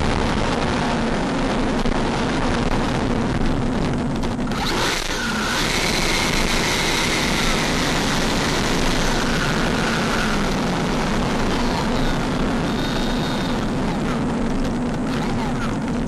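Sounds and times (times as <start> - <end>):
dense rushing noise: 0.0 - 16.0
electric ducted fan whining: 0.0 - 16.0.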